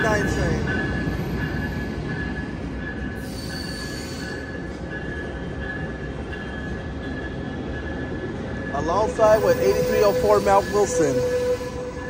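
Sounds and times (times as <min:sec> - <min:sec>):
train cars rumbling: 0:00.0 - 0:12.0
train wheel squeal: 0:00.0 - 0:12.0.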